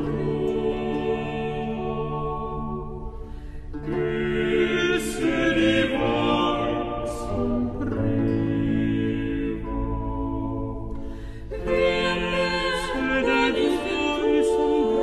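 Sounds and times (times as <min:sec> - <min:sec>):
voices singing slow held notes: 0:00.0 - 0:15.0.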